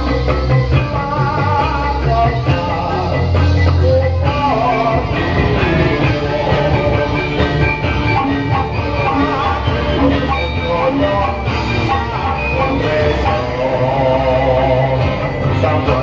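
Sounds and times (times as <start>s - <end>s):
live dance music with drums: 0.0s - 16.0s
person singing: 0.0s - 16.0s.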